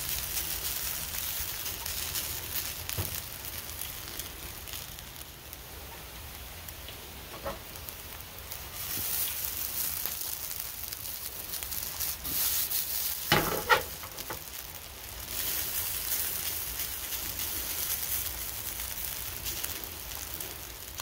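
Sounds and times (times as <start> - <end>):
potatoes sizzling in oil: 0.0 - 21.0.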